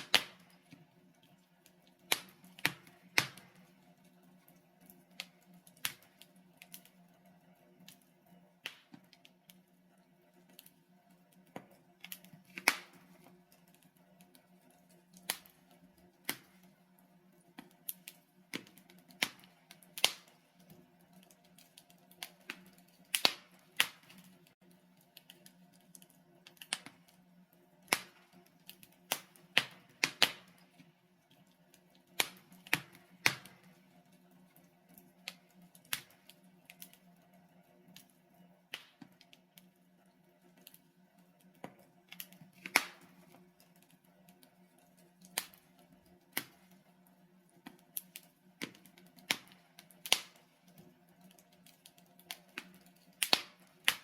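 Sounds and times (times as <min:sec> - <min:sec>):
logs crackling in fireplace: 0:00.0 - 0:54.0.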